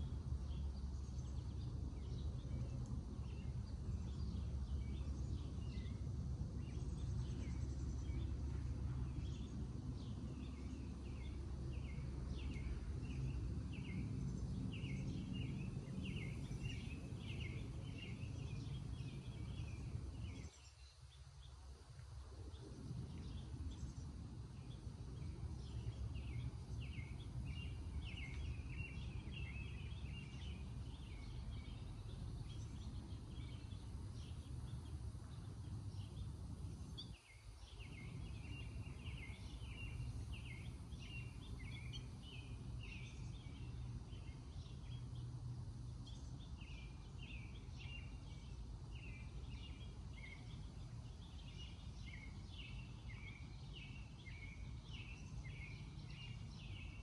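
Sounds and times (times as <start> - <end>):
steady low rumble: 0.0 - 20.9, 21.6 - 57.0
small birds chirping: 0.0 - 57.0.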